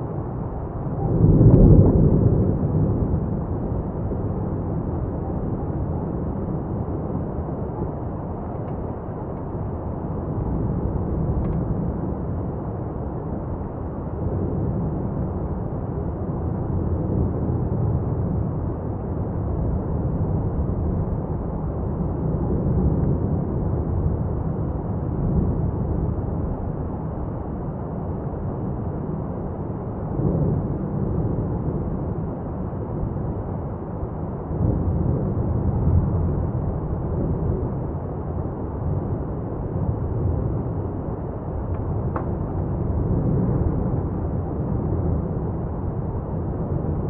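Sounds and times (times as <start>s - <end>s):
lava fountain deep rumble: 0.0s - 47.0s.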